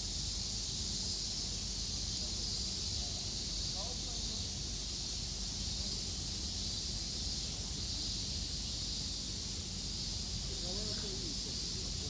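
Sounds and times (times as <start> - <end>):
high outdoor hiss: 0.0 - 12.0.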